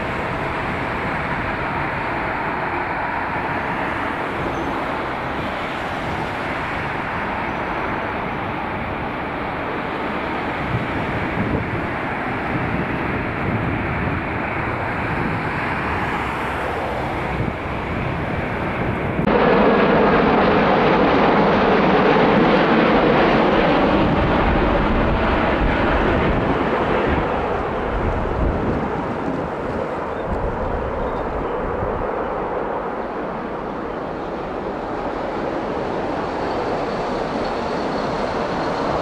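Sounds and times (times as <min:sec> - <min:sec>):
jet airliner engine noise: 0:00.0 - 0:39.0.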